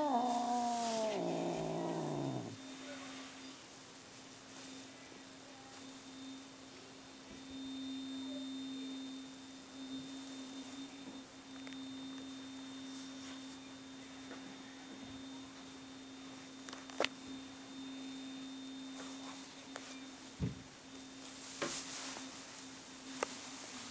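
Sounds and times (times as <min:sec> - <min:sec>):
faint high whine: 0:00.0 - 0:23.9.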